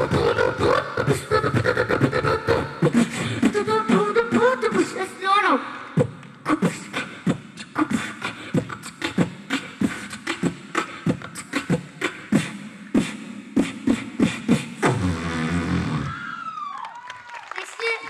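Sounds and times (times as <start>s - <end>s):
beatboxing into a microphone: 0.0s - 16.6s.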